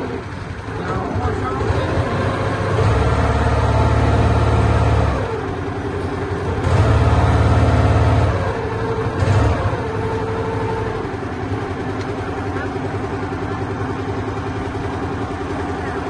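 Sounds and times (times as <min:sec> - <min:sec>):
boat engine pulsing: 0:00.0 - 0:16.0.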